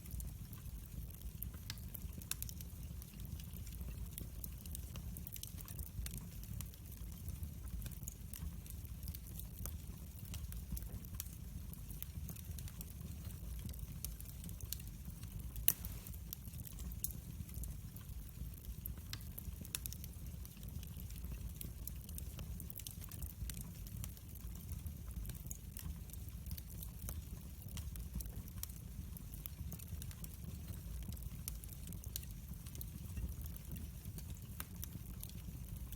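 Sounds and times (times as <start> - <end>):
fire crackling and popping: 0.0 - 35.9
low rumble of flames: 0.0 - 35.9.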